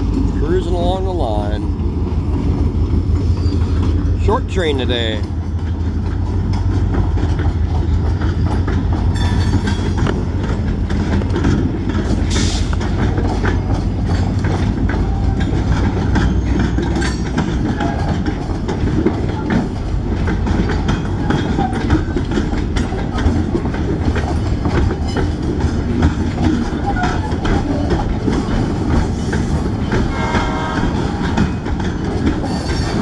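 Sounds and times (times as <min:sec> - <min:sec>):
freight train rumbling past: 0:00.0 - 0:33.0
wheels clanking over rail joints: 0:00.0 - 0:33.0.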